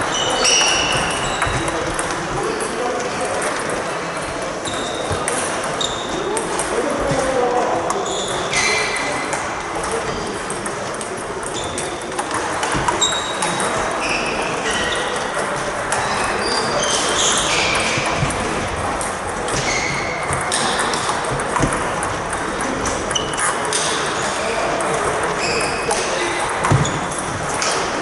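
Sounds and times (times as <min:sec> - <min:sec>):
table tennis balls pinging: 0:00.0 - 0:28.0.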